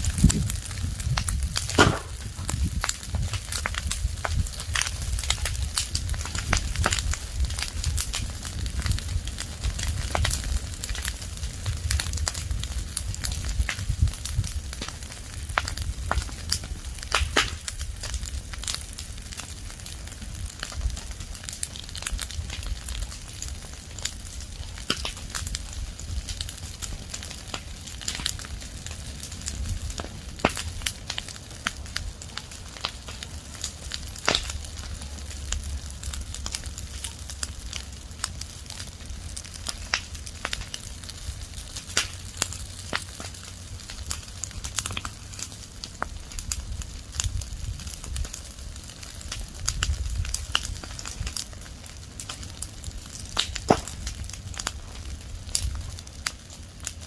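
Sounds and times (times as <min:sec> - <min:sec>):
fire crackling and popping: 0:00.0 - 0:57.0
low rumble of fire: 0:00.0 - 0:57.0.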